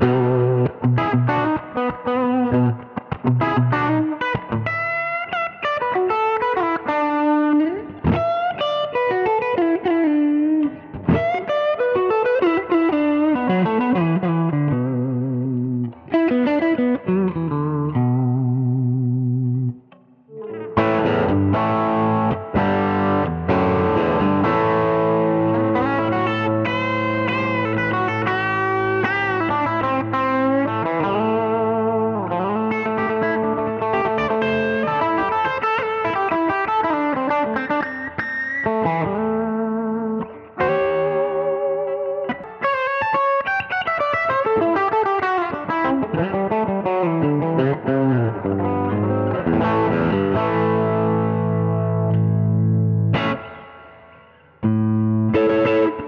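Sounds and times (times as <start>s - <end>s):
overdriven electric guitar: 0.0s - 56.0s.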